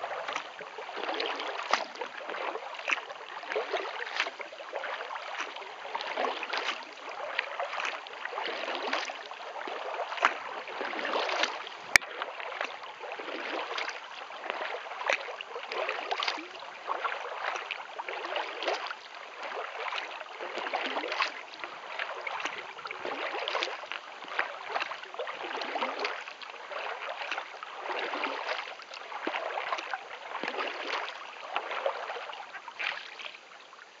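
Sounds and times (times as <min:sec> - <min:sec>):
paddle strokes splashing water: 0:00.0 - 0:34.0
water rushing along hull: 0:00.0 - 0:34.0.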